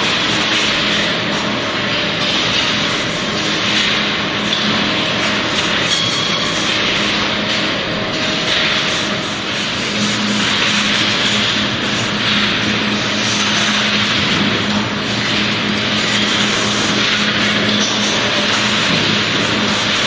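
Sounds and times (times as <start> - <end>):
loud machinery noise: 0.0 - 20.0.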